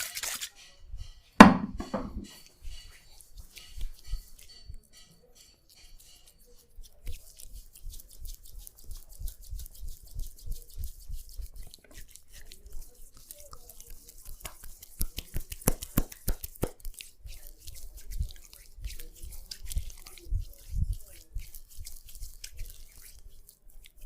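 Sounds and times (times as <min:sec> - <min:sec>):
razor scraping beard stubble: 0:00.0 - 0:01.2, 0:02.2 - 0:24.0.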